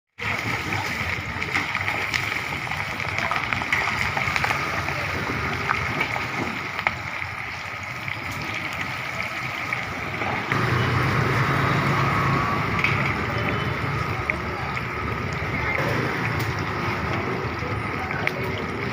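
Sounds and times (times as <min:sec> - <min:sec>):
chicken sizzling in hot oil: 0:00.2 - 0:18.9.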